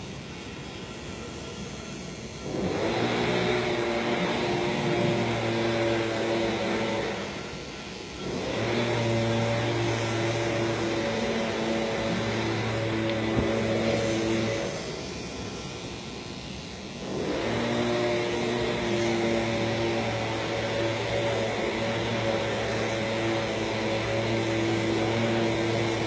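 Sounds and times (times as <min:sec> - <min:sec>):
electric clippers motor hum: 0:00.0 - 0:26.0.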